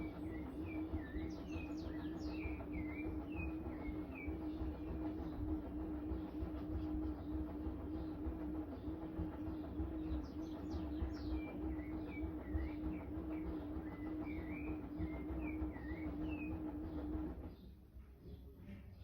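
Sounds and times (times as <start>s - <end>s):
washing machine motor whine: 0.0s - 17.5s.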